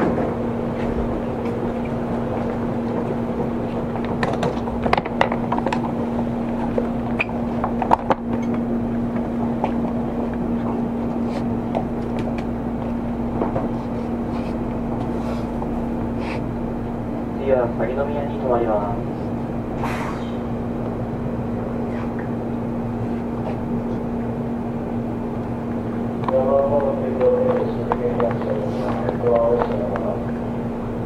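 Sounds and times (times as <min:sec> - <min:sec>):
air conditioning running: 0:00.0 - 0:31.0
train cabin rumble and hum: 0:00.0 - 0:31.0.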